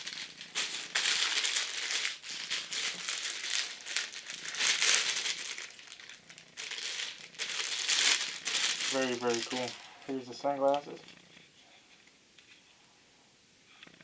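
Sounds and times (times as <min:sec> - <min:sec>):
fabric rustling and crinkling: 0:00.0 - 0:12.7.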